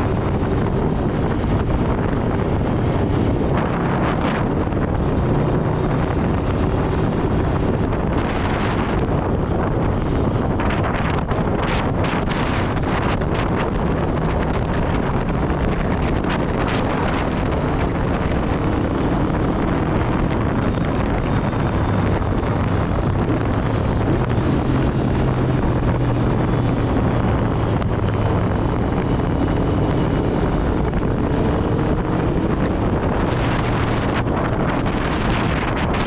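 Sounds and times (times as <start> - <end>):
motorcycle engine running: 0.0 - 36.0
wind buffeting microphone: 0.0 - 36.0.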